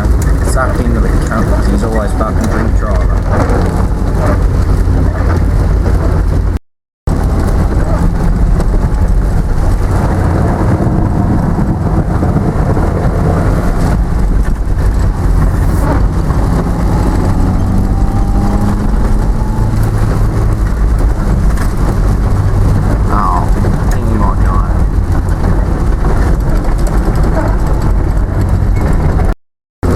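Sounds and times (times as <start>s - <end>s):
car engine and road drone: 0.0s - 29.9s.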